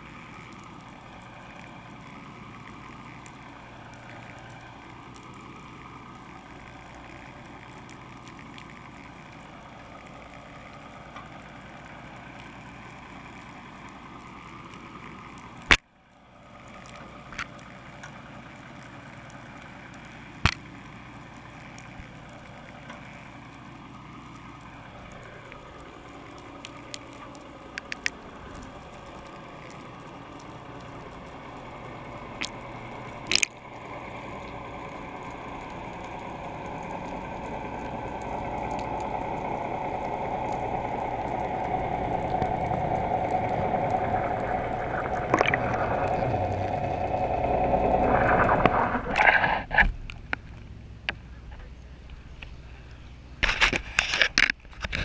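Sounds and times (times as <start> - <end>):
boat engine: 0.0 - 55.0
water noise: 0.0 - 55.0.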